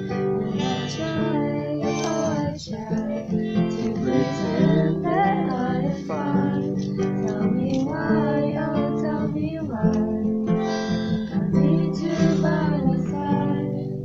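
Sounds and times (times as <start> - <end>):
acoustic guitar strumming: 0.0 - 14.0
guitar melody line: 0.0 - 14.0.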